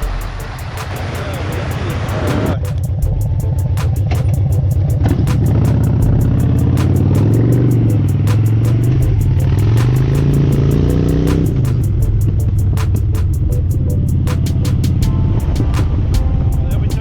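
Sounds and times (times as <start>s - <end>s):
motorcycle engine revving: 0.0s - 15.1s.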